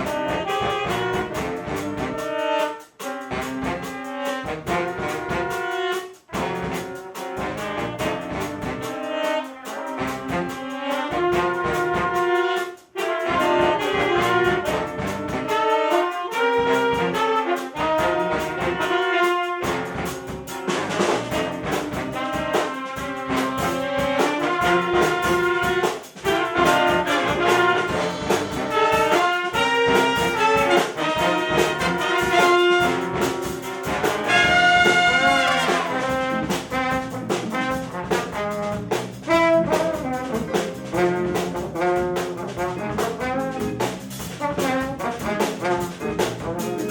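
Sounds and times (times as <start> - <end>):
horn stabs: 0.0 - 46.9
jazz big band playing: 0.0 - 46.9.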